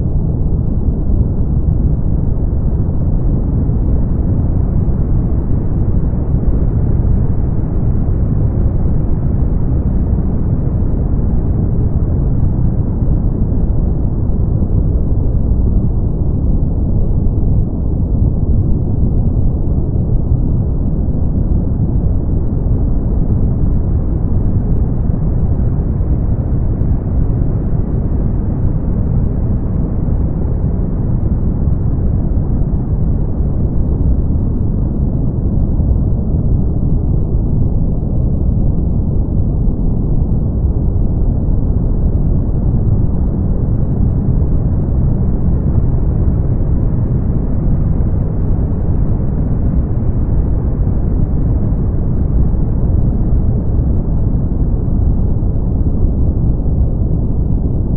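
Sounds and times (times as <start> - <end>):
brown noise: 0.0 - 57.9.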